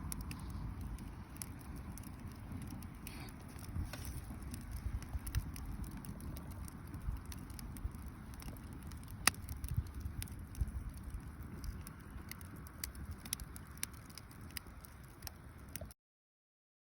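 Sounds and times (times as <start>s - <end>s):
low rumble: 0.0s - 15.0s
campfire crackling and popping: 0.0s - 16.0s.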